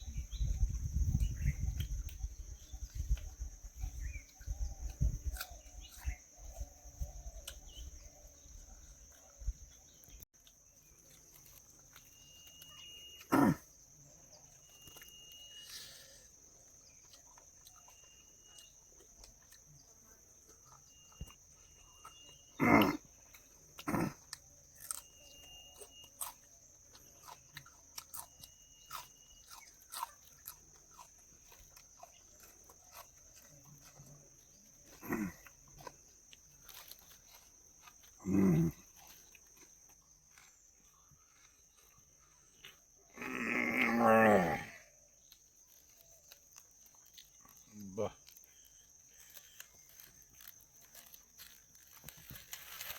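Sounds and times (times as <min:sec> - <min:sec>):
man chewing food: 0:00.7 - 0:43.1, 0:45.2 - 0:52.9.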